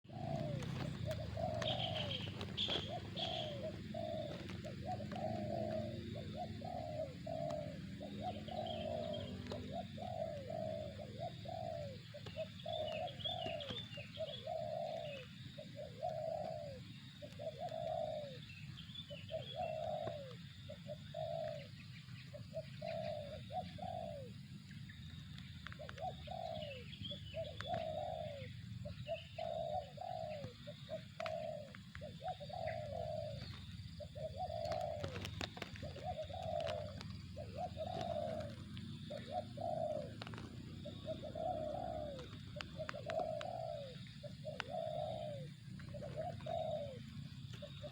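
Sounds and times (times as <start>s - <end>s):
dove cooing: 0.0s - 47.9s
small birds chirping: 0.0s - 47.9s.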